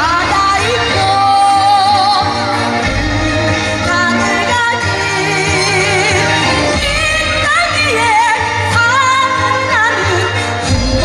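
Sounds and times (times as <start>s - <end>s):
amplified backing music with bass: 0.0s - 11.0s
woman singing with vibrato: 0.0s - 11.0s.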